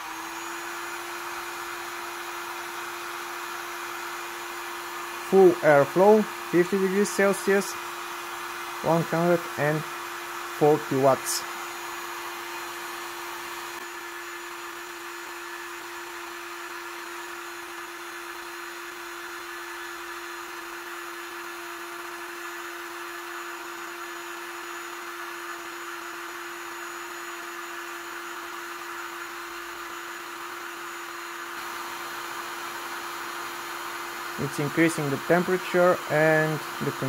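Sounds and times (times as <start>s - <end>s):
hot air gun blowing: 0.0s - 37.0s.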